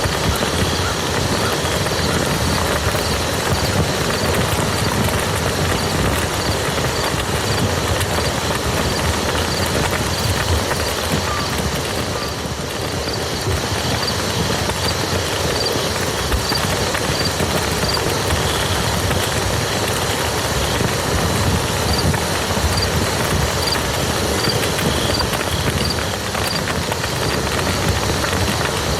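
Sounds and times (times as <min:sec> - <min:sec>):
steady rain on a muddy field: 0:00.0 - 0:28.9.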